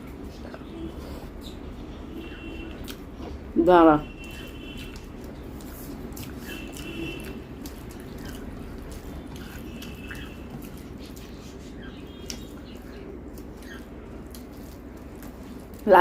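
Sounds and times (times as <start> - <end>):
person eating by hand: 0.0 - 3.5, 4.2 - 15.9.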